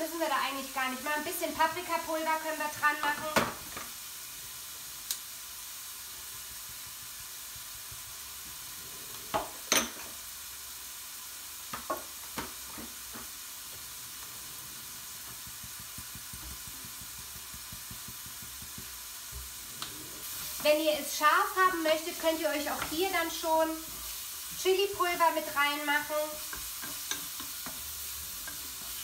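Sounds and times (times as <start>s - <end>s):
meat sizzling in a frying pan: 0.0s - 29.0s.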